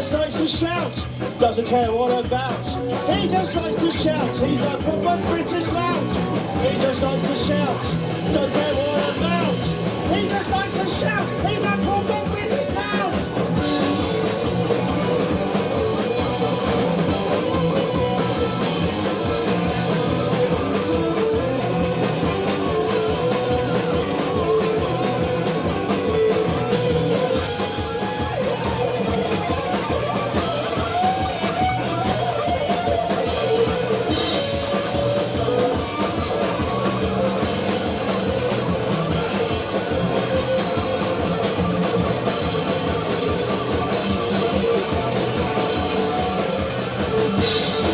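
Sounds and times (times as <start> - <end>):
rock band playing instrumental: 0.0 - 47.9
wavering lead guitar line: 0.0 - 47.9.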